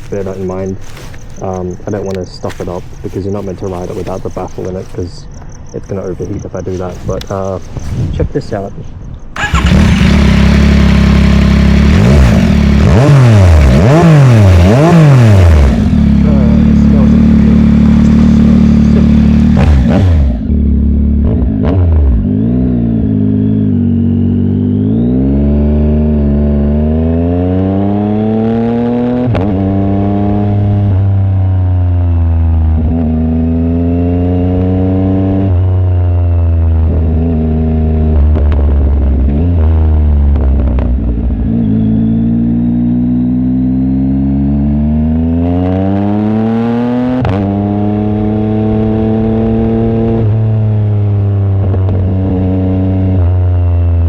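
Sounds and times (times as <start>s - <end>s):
motorcycle engine accelerating: 9.3s - 54.0s.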